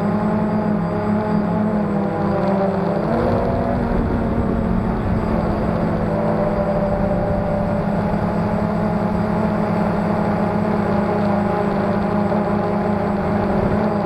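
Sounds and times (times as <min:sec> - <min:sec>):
drone motors buzzing: 0:00.0 - 0:14.0.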